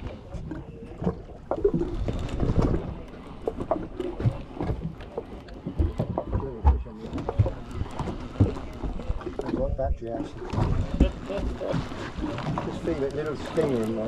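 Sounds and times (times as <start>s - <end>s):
water noise: 0.0s - 14.0s.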